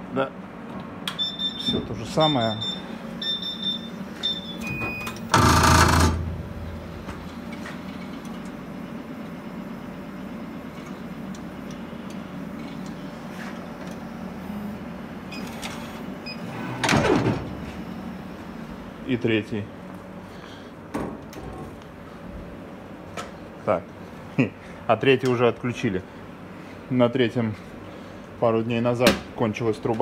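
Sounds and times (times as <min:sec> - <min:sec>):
machine low hum: 0:00.0 - 0:30.0.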